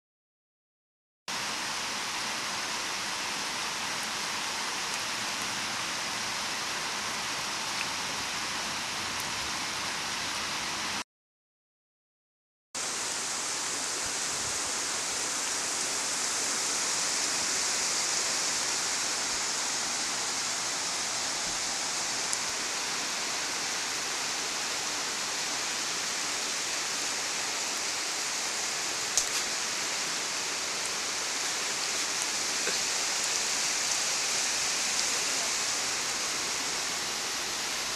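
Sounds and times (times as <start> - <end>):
heavy rain pouring: 1.3 - 11.0, 12.8 - 37.9.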